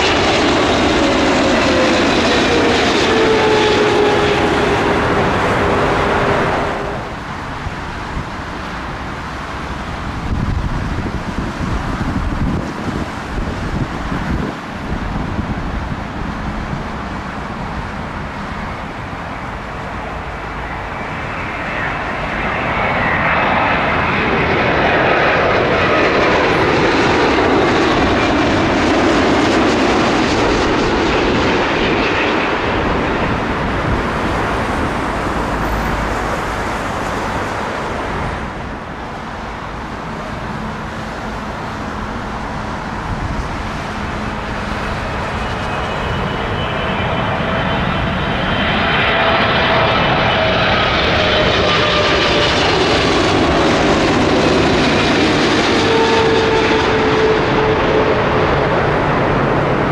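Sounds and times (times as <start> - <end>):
jet airliner passing overhead: 0.0 - 59.9
jet engine whine: 0.0 - 59.9.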